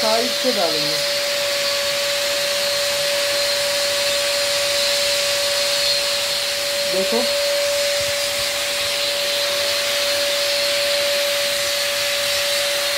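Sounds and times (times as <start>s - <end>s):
electric blower whine: 0.0s - 12.9s.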